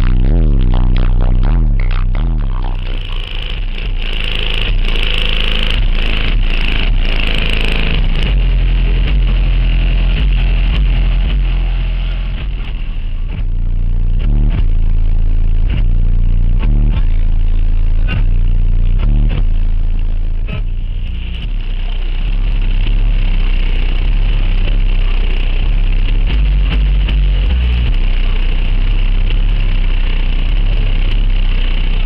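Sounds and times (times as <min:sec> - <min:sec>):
loud bass music: 0:00.0 - 0:32.0.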